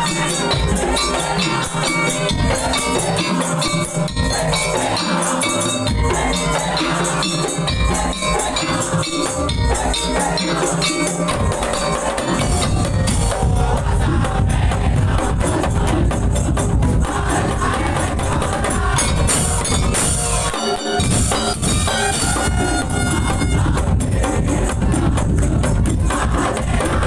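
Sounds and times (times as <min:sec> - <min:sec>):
drums playing fast rhythm: 0:00.0 - 0:27.0
pitched metal percussion: 0:00.0 - 0:27.0.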